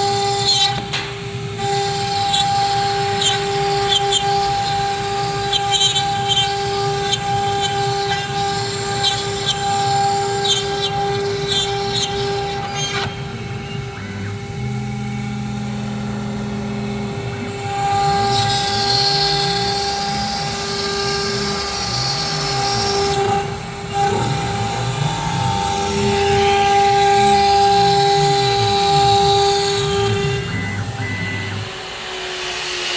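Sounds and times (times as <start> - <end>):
router spindle whine: 0.0 - 32.9.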